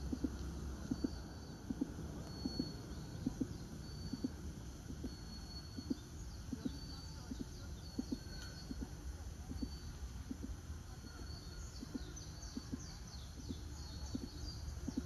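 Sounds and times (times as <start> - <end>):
birds chirping: 0.0 - 15.0
low background rumble: 0.0 - 15.0
soft low double pulses: 0.0 - 15.0.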